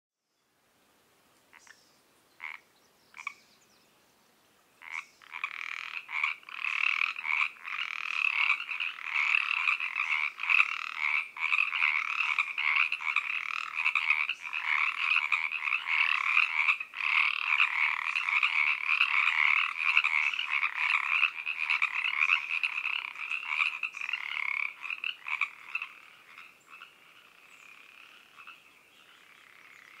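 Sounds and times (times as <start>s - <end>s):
separate frog calls: 1.5s - 1.8s, 2.4s - 3.4s, 4.8s - 30.0s
treefrogs croaking: 1.5s - 3.7s, 4.8s - 30.0s.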